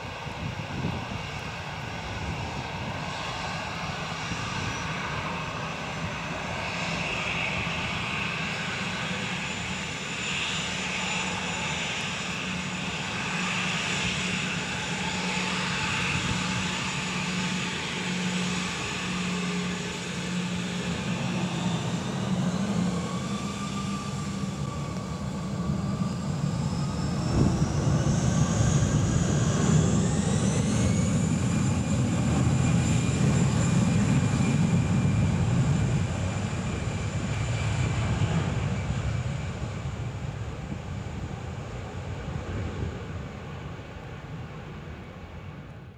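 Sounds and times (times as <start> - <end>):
jet engines humming and whining: 0.0 - 45.9.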